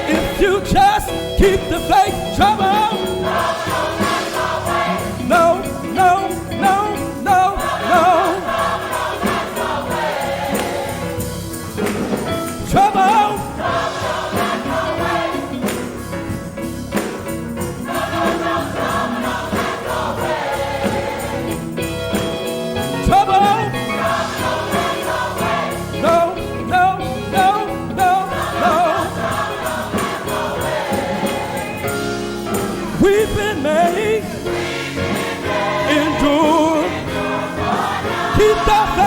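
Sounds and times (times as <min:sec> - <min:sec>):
gospel choir singing: 0:00.0 - 0:39.0
live instrumental accompaniment: 0:00.0 - 0:39.0.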